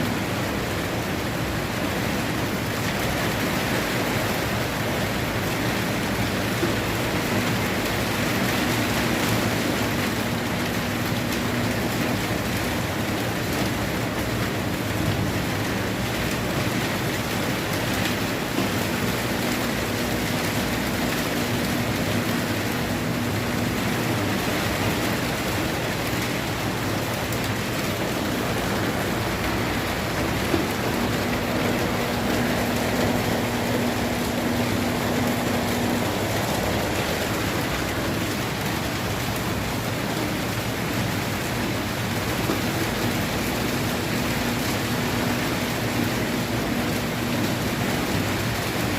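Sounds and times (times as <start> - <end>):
washing machine drum rushing: 0.0 - 48.9
low motor hum: 3.0 - 48.9.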